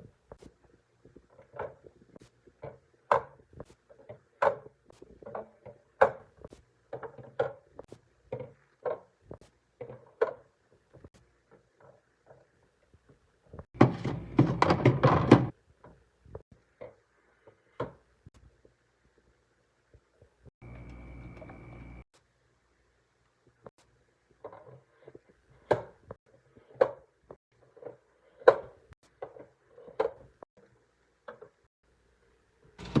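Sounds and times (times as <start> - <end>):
items clunking and tapping: 0.0 - 18.8, 23.6 - 31.7, 32.6 - 33.0.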